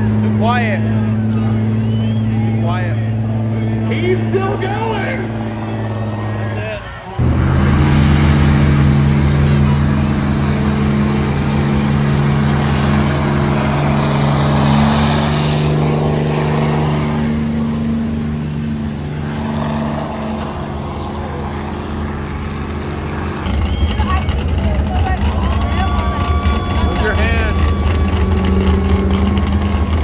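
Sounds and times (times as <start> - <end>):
loud low engine sound: 0.0 - 30.0
truck engine droning: 0.0 - 30.0.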